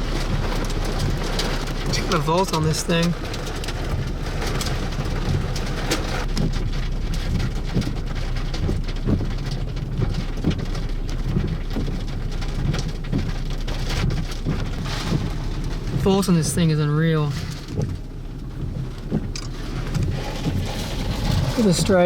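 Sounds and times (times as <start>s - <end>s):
low thunder rumble: 0.0s - 22.0s
raindrops ticking: 0.0s - 22.0s.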